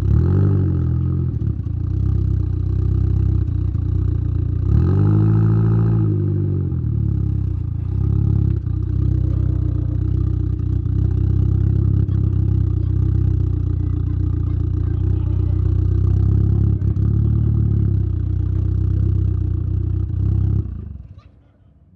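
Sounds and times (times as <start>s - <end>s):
car exhaust revving: 0.0s - 21.1s.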